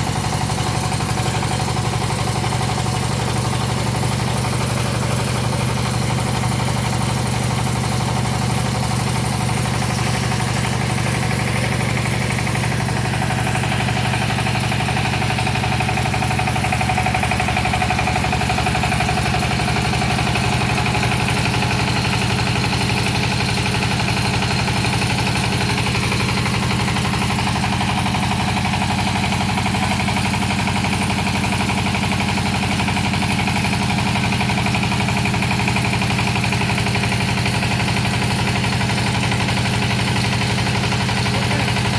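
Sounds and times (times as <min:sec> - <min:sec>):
drilling rig engine running: 0:00.0 - 0:41.9.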